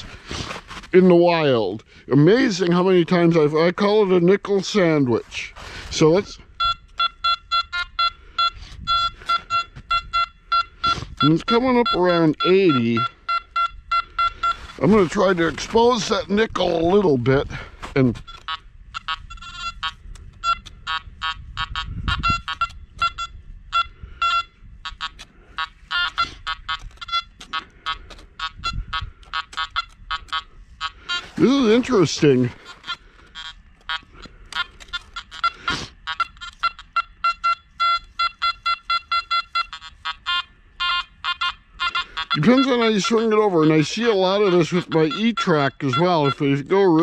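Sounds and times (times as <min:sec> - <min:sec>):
metal detector beeps: 0:05.9 - 0:47.0.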